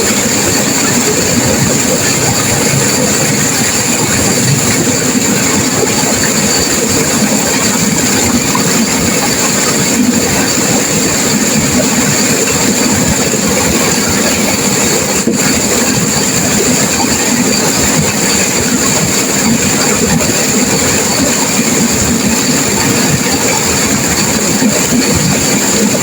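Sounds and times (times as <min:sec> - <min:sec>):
turbulent river water rushing: 0:00.0 - 0:26.0.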